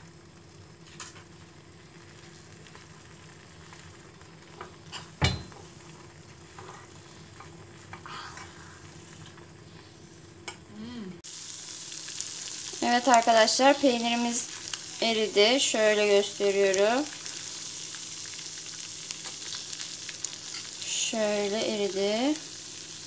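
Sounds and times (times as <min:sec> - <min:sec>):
low sizzle: 0:00.0 - 0:23.0.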